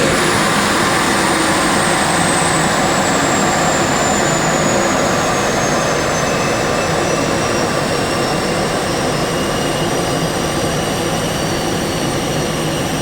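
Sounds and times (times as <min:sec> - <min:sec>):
high engine whine: 0:00.0 - 0:13.0
jet engines roaring: 0:00.0 - 0:13.0.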